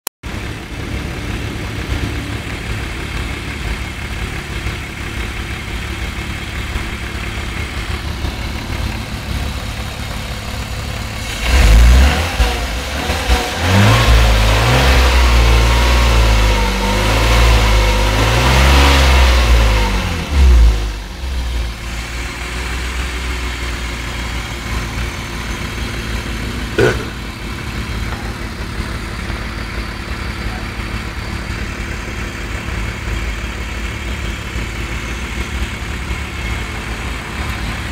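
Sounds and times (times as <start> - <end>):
car engine idling and revving: 0.2 - 37.9.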